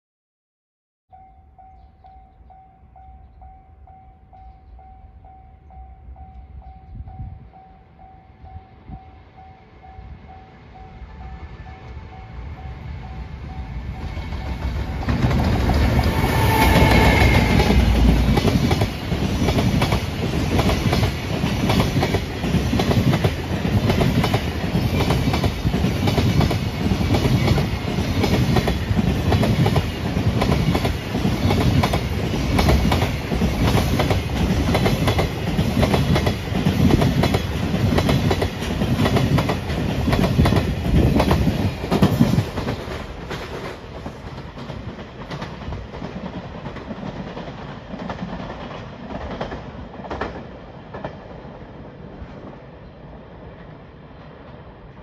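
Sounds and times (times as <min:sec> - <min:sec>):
freight train passing: 0:01.1 - 0:55.0.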